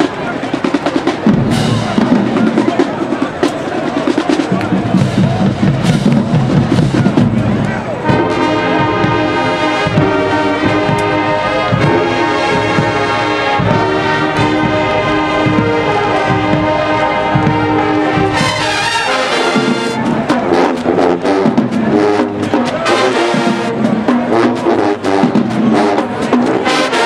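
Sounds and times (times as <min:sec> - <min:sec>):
brass section playing chords: 0:04.8 - 0:27.0.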